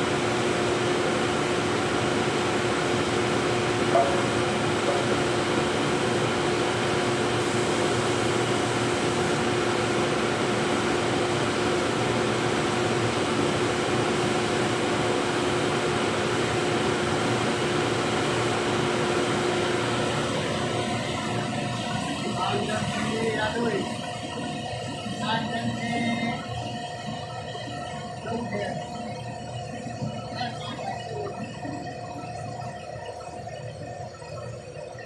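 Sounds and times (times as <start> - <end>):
constant hum tone: 0.0 - 35.0
printing machinery drone: 0.0 - 35.0.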